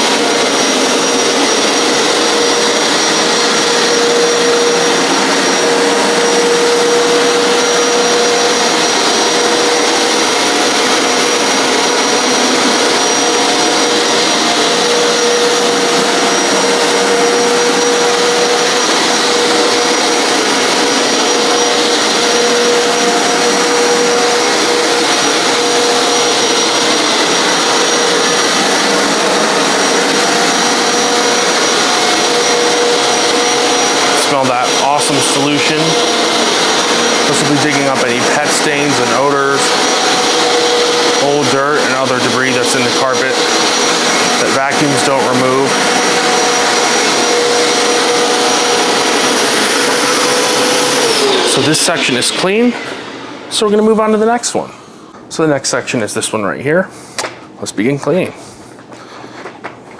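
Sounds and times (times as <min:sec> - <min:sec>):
carpet cleaner running: 0:00.0 - 0:59.9.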